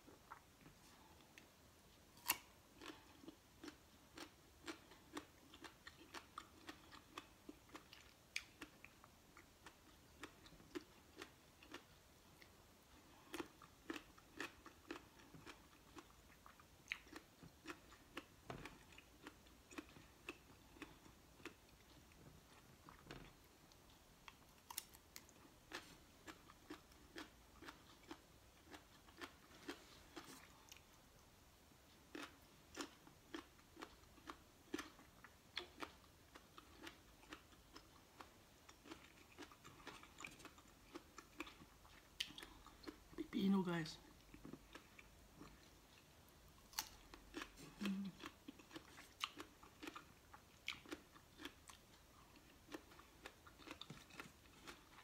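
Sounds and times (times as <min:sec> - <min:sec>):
crunchy chewing: 0:02.2 - 0:30.9, 0:32.1 - 0:43.2, 0:44.1 - 0:55.0.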